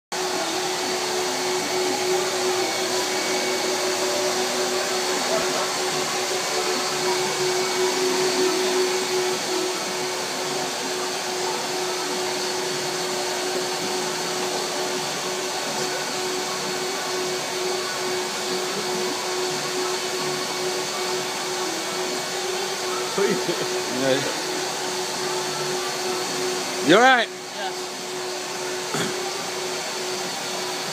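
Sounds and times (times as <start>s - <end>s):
vacuum cleaner running: 0.1s - 30.9s.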